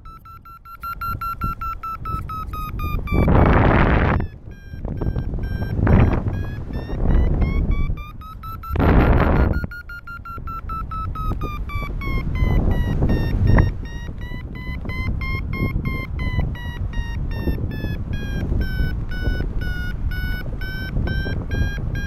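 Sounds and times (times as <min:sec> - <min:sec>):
variometer beeping: 0:00.0 - 0:22.0
wind rushing over microphone: 0:00.1 - 0:22.0.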